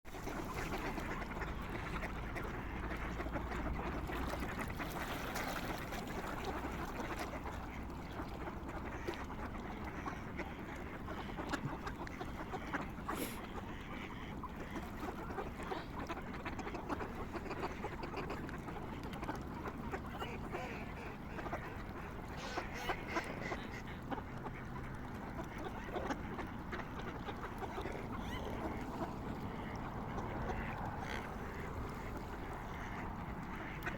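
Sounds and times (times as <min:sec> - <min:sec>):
waterfowl calling: 0:00.1 - 0:33.9.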